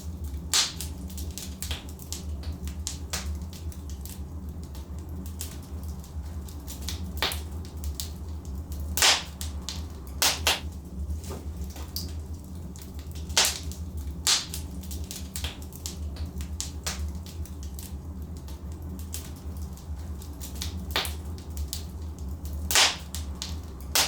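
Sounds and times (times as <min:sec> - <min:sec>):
logs crackling in fireplace: 0:00.0 - 0:24.0
loud pops of burning logs: 0:00.3 - 0:10.8, 0:12.8 - 0:24.0.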